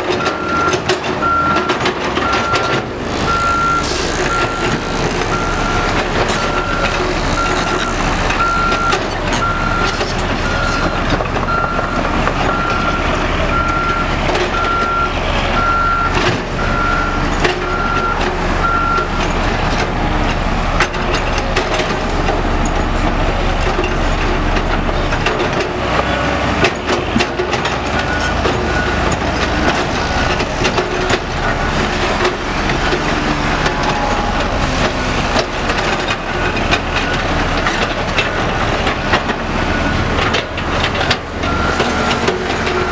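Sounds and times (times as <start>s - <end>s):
diesel machinery rumbling: 0.0s - 42.9s
reversing alarm beeping: 0.1s - 25.7s, 26.8s - 42.9s.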